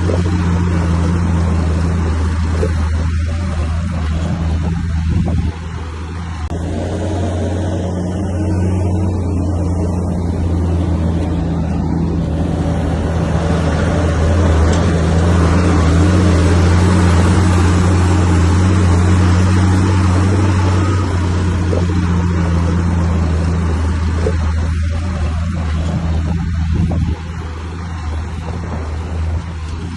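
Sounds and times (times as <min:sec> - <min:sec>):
bulldozer diesel engine running: 0:00.0 - 0:29.9.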